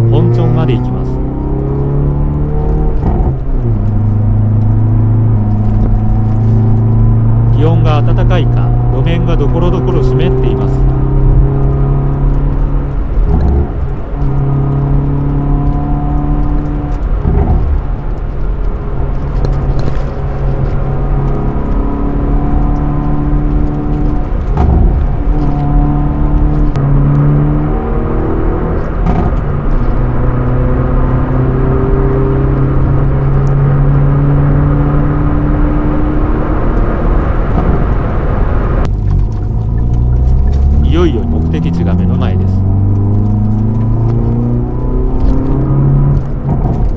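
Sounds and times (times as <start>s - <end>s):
car engine while driving: 0.0s - 46.9s
road noise: 0.0s - 46.9s.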